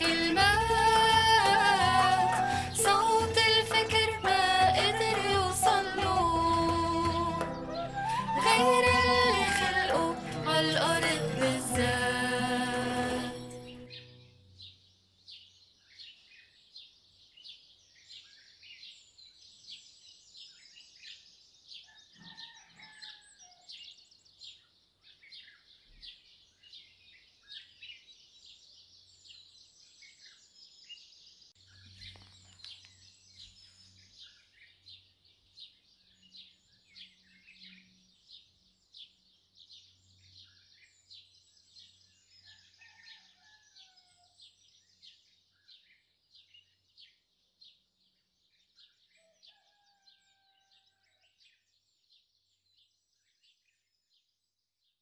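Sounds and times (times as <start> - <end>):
small birds chirping: 0.0 - 54.8.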